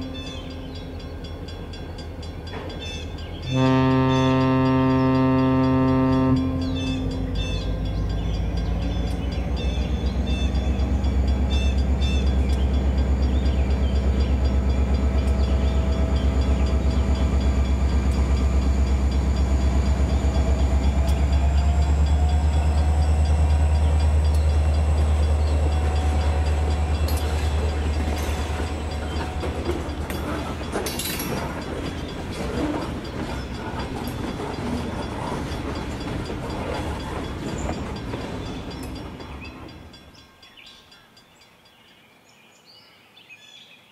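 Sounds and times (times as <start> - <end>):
model train running on track: 0.0 - 41.0.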